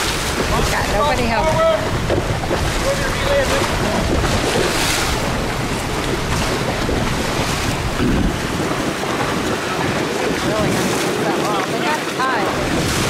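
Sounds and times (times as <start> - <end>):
water washing against seawall: 0.0 - 13.0
wind buffeting microphone: 0.0 - 13.0.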